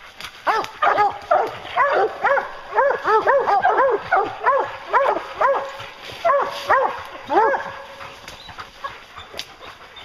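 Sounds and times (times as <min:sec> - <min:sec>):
hounds barking: 0:00.4 - 0:10.0.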